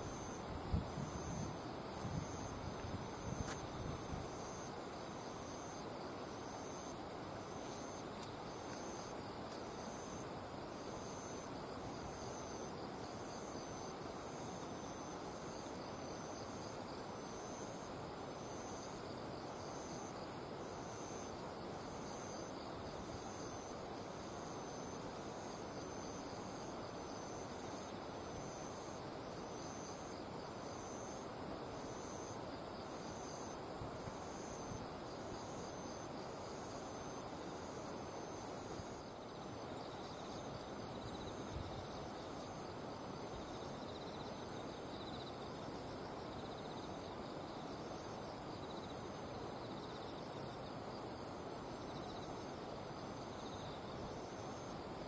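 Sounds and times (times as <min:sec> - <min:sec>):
soft background hiss: 0:00.0 - 0:55.0.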